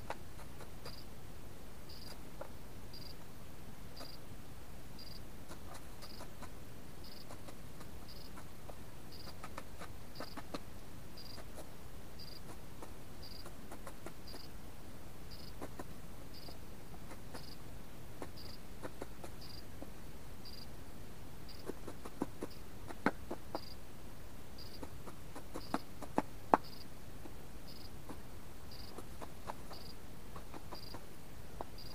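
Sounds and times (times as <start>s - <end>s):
pheasant pecking: 0.0s - 1.2s, 1.9s - 4.3s, 5.0s - 20.8s, 21.4s - 31.9s.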